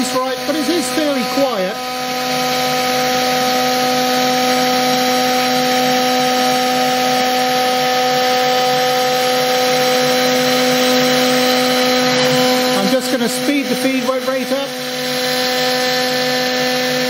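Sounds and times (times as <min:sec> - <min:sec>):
bit carving wood: 0:00.0 - 0:17.0
router spindle whining: 0:00.0 - 0:17.0.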